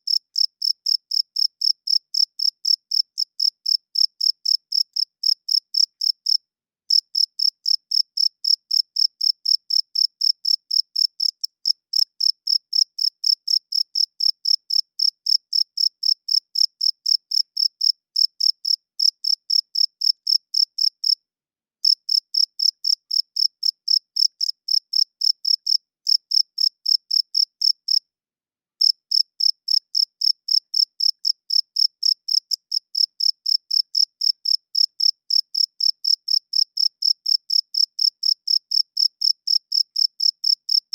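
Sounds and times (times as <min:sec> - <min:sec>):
cricket chirping: 0:00.1 - 0:21.2, 0:21.8 - 0:28.0, 0:28.8 - 0:40.8.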